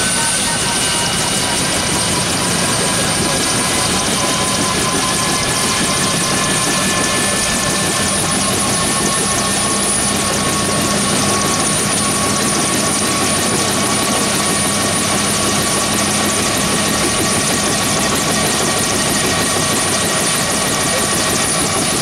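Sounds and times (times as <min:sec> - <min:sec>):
helicopter rotor noise: 0:00.0 - 0:22.0
turboshaft engine whine: 0:00.0 - 0:22.0.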